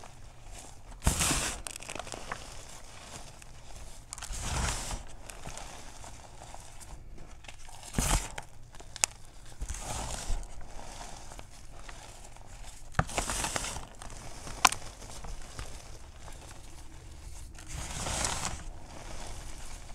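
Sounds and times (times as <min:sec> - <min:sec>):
chalk cracking: 0:00.0 - 0:19.9
chalk crunching by hand: 0:00.0 - 0:19.9.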